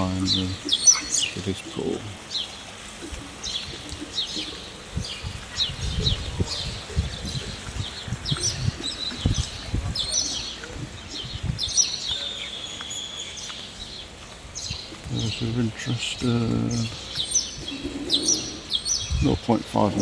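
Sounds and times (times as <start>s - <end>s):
small birds chirping and trilling: 0.0s - 20.0s.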